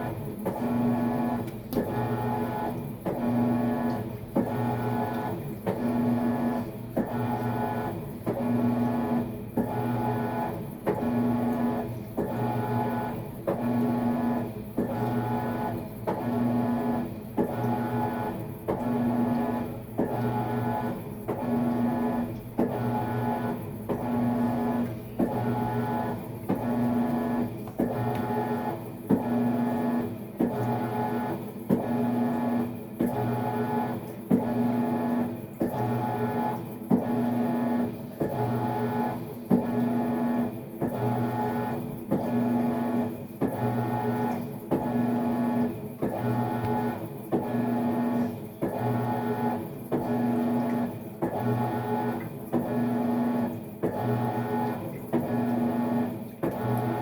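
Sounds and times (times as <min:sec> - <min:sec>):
washing machine motor humming: 0:00.0 - 0:57.0.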